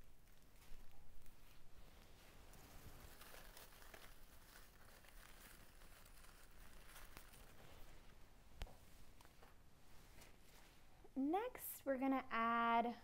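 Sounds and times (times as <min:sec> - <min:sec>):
rustling and crinkling of leaves: 0:00.0 - 0:10.9
soft crackles: 0:00.0 - 0:12.0.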